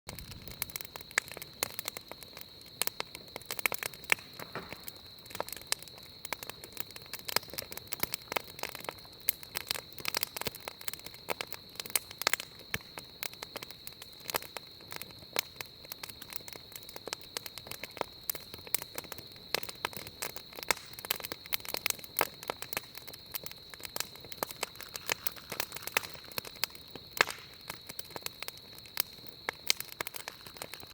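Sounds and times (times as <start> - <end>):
wood fire crackling and popping: 0.1 - 30.9.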